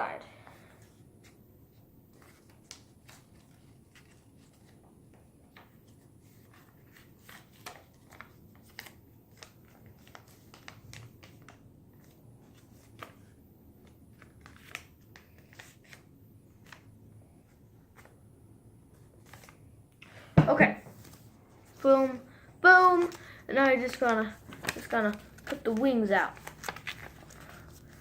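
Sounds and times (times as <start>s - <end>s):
paper being folded and creased: 2.1s - 16.9s, 18.9s - 19.6s, 20.9s - 28.0s.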